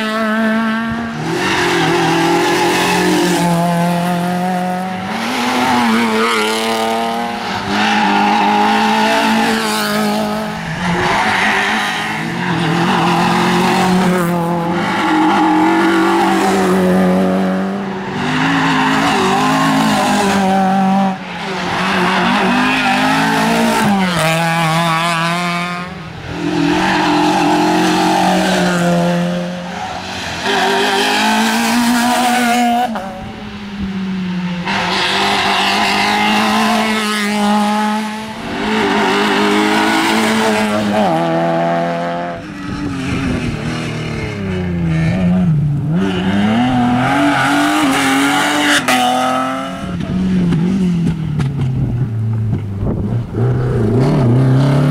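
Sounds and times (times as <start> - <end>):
rally cars revving past: 0.0 - 54.9.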